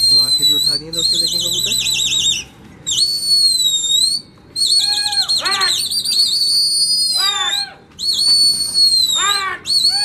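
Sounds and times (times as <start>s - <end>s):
high-pitched warbling whistle: 0.0s - 10.0s
lower swooping whistle notes: 0.0s - 10.0s.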